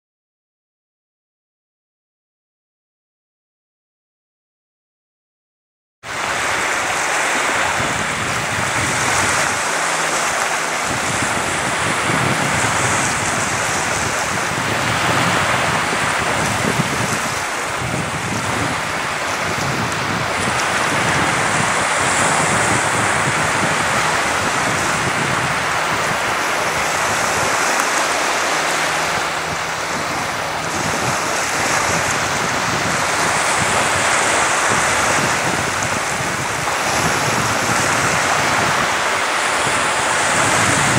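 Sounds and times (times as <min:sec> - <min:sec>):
small waves washing on shore: 0:06.1 - 0:40.9
wind on microphone: 0:06.1 - 0:40.9.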